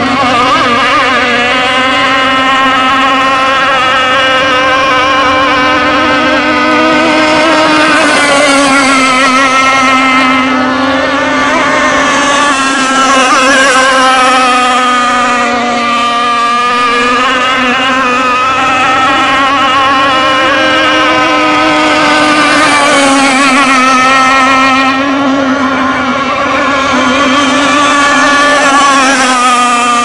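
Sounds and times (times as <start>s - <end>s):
model boat engine buzzing: 0.0s - 30.0s.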